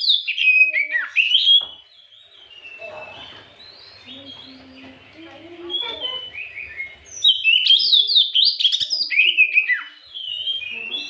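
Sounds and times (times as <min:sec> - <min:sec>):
bird singing whistled notes: 0:00.0 - 0:05.0, 0:05.6 - 0:11.0.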